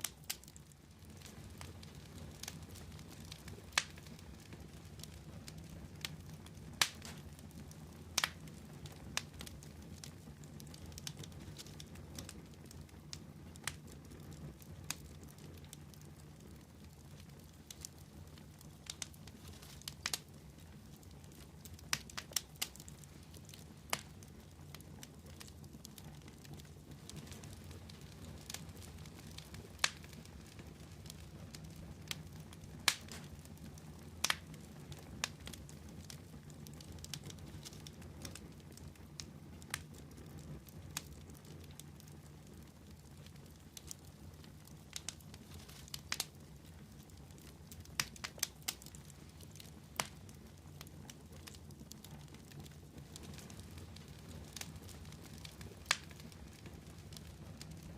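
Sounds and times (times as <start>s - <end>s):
fire crackling with pops: 0.0s - 57.9s.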